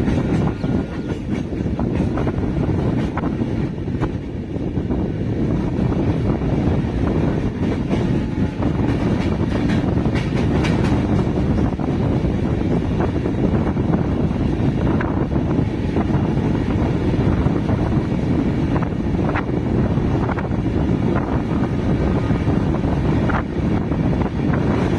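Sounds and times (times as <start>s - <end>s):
sharp clicks from train wheels: 0.0s - 24.9s
train wheels rumbling on rail: 0.0s - 24.9s
wind on microphone: 0.0s - 24.9s.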